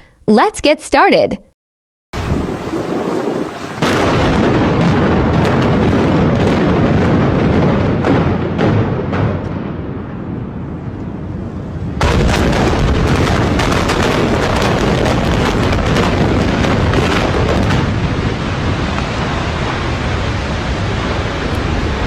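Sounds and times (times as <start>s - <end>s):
loud demolition blast: 2.2s - 11.0s, 11.8s - 22.0s.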